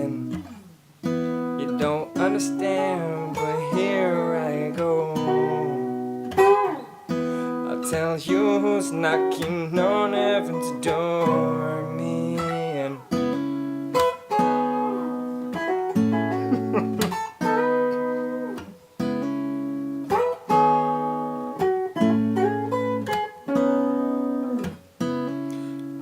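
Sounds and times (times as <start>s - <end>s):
electric lead guitar bending notes: 0.0s - 26.0s
strummed guitar chords: 0.0s - 26.0s.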